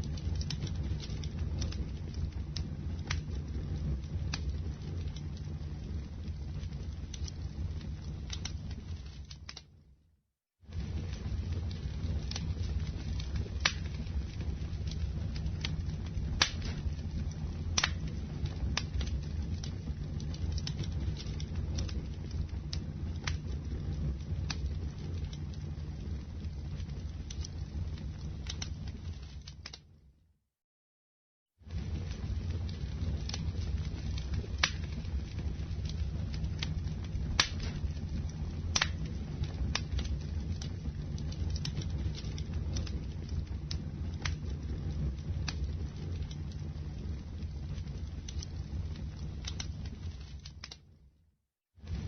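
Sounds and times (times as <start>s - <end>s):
burning wood crackling and popping: 0.0s - 9.8s, 10.7s - 30.0s, 31.6s - 51.0s, 51.8s - 52.0s
low rumble of flames: 0.0s - 30.3s, 31.5s - 52.0s.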